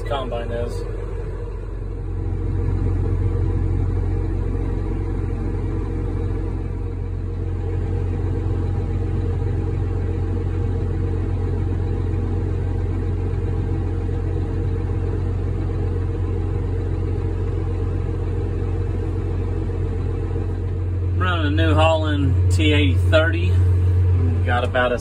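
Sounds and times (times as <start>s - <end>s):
tractor diesel engine hum: 0.0s - 25.0s.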